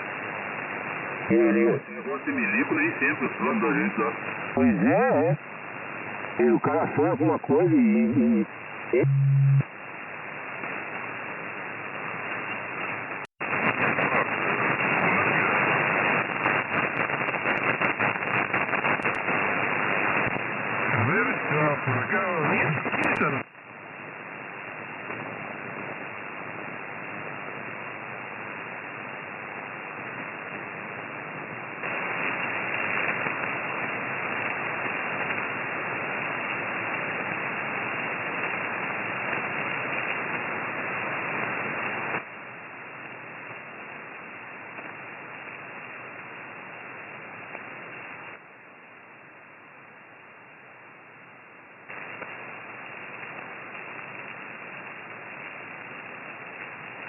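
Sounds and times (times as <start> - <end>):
radio interference hiss: 0.0 - 57.0.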